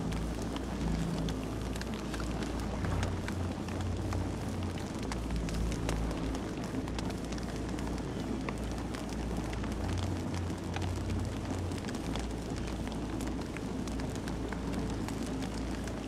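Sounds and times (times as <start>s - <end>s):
campfire burning: 0.0s - 16.0s.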